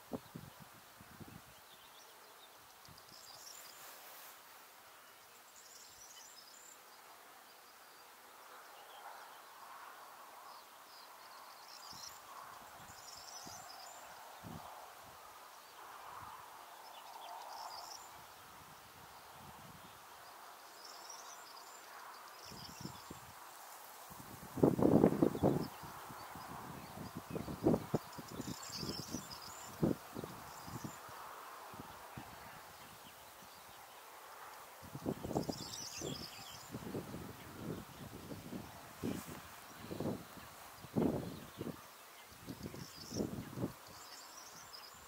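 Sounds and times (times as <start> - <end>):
steady low hiss: 0.0 - 45.0.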